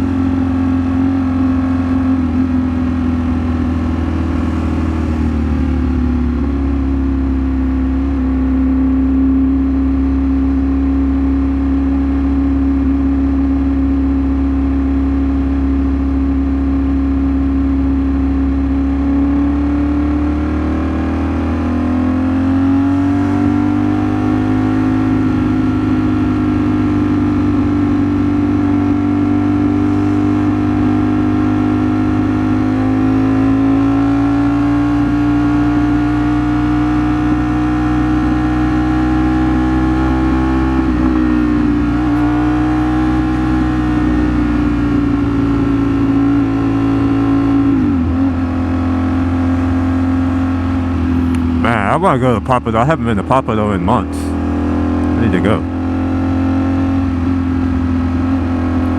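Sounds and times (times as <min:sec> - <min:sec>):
motorcycle engine running: 0:00.0 - 0:53.2.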